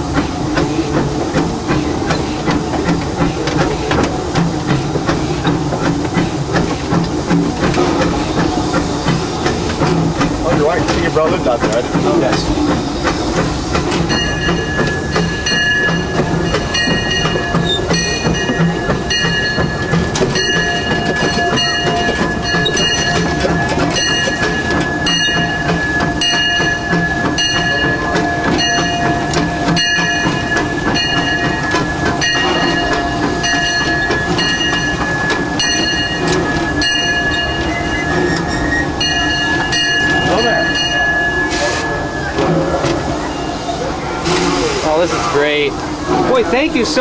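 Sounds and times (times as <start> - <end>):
steam locomotive running slowly: 0.0 - 47.0.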